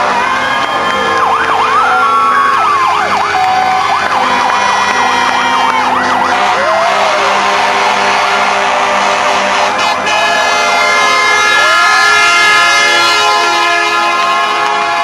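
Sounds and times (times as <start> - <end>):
fire engine sirens: 0.0 - 15.0.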